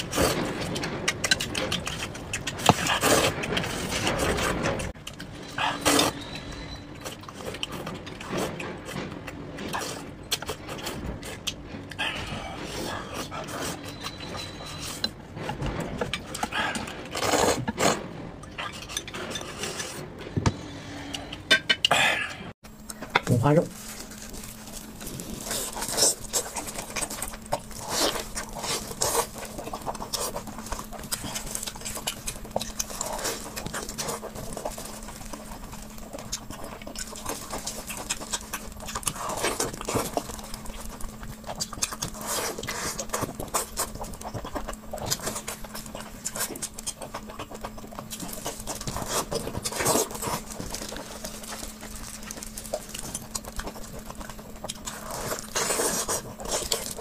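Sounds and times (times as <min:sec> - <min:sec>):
faint steady hum: 0:00.0 - 0:57.0
person chewing food: 0:00.0 - 0:57.0.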